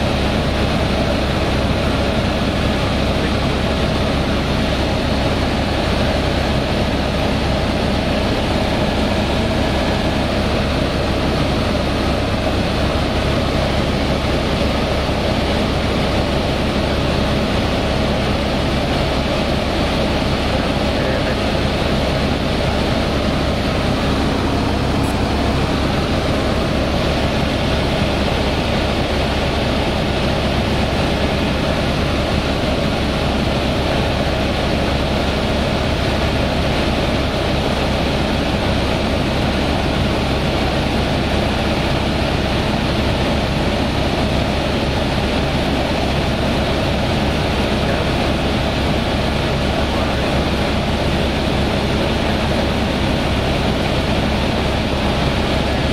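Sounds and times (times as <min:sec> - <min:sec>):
helicopter rotor and engine drone: 0:00.0 - 0:55.9.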